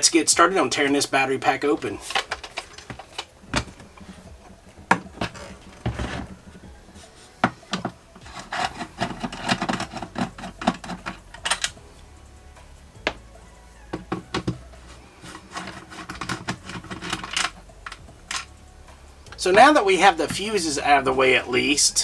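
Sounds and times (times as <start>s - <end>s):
rubbing and scraping: 0.0s - 22.0s.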